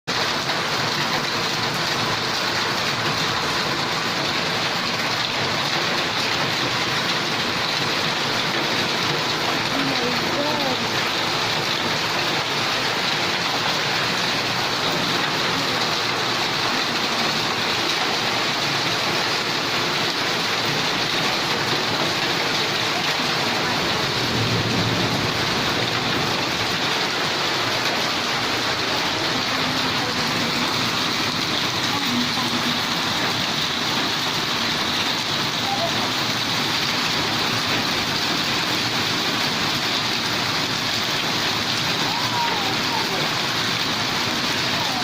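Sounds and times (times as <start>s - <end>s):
steady rain falling: 0.1s - 45.0s.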